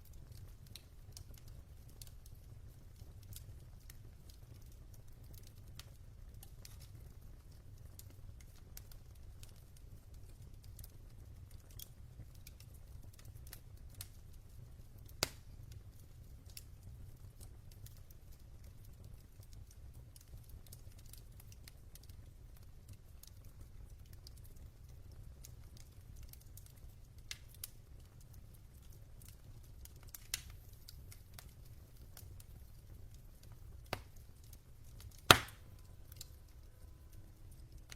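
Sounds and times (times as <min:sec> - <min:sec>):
fire popping: 0:00.0 - 0:37.9
log fire crackling: 0:00.0 - 0:37.9.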